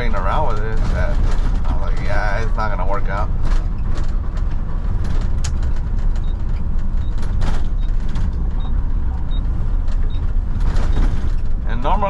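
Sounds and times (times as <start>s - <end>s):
diesel truck engine rumbling: 0.0s - 12.0s
sharp rattles: 0.0s - 12.0s.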